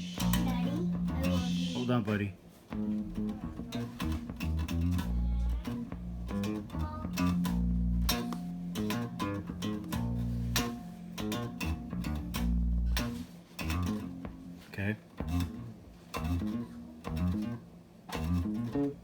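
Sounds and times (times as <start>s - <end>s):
bass guitar plucked notes: 0.0s - 2.1s, 2.7s - 14.6s, 15.2s - 19.0s.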